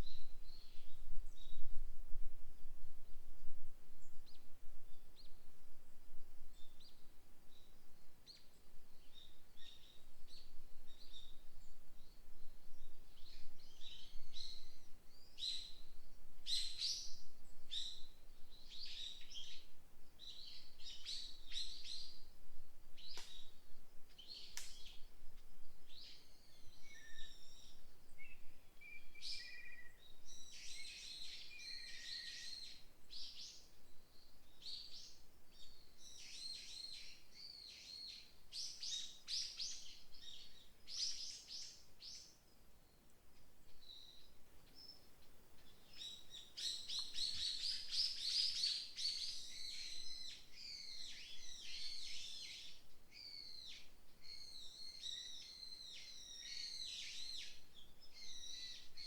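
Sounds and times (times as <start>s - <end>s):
songbirds chirping: 3.8s - 59.0s.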